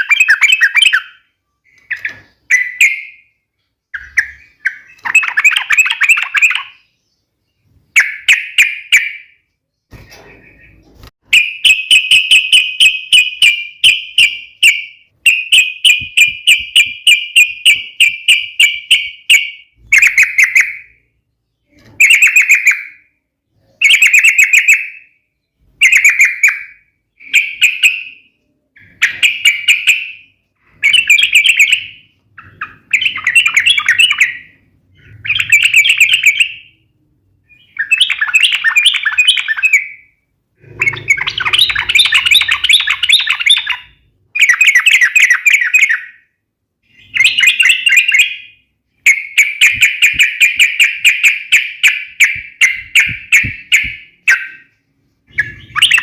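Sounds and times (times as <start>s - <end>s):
bird singing fast chattering notes: 0.0s - 9.4s, 10.5s - 23.0s, 25.8s - 36.8s, 37.5s - 46.2s, 46.8s - 56.0s.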